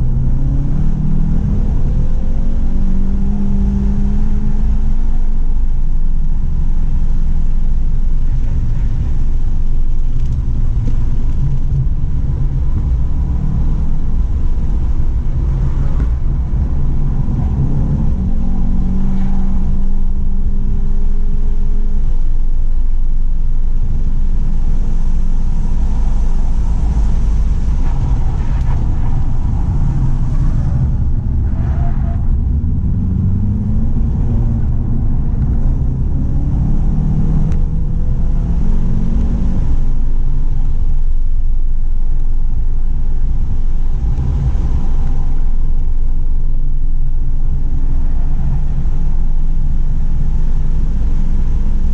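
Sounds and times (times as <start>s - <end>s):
car engine revving: 0.0s - 51.9s
road and drivetrain rumble: 0.0s - 51.9s.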